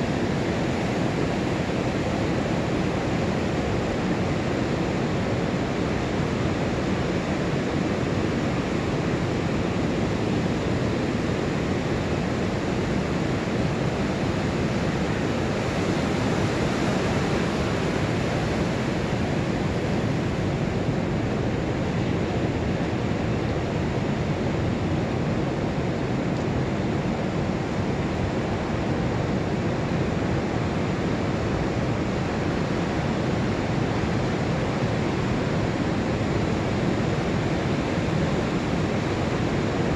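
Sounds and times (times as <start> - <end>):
surf washing up sandy beach: 0.0 - 39.9.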